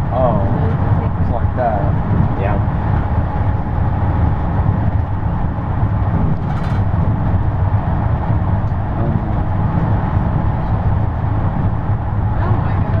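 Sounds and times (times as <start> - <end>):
road and engine rumble in cabin: 0.0 - 13.0.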